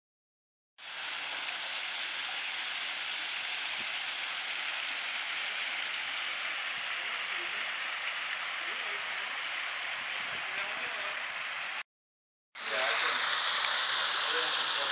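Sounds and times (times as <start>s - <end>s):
waterfall splashing into pond: 0.8s - 11.8s, 12.6s - 14.9s.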